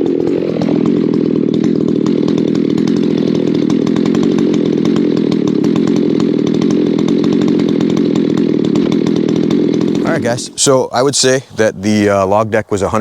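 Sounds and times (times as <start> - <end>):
chainsaw at full throttle: 0.0 - 11.0.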